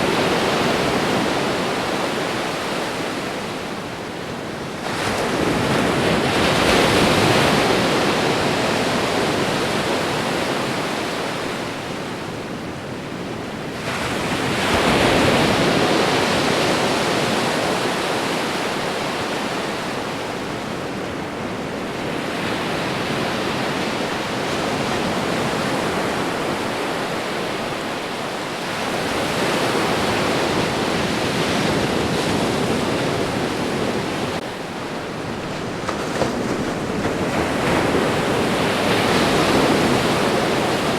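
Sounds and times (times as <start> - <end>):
ocean waves washing on shore: 0.0 - 40.9.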